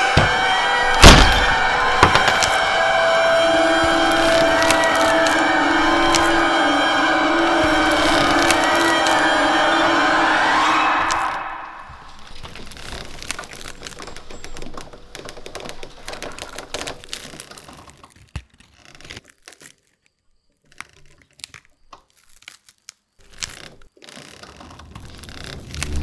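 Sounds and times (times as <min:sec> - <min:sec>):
dry crackling and crunching: 0:00.0 - 0:26.0.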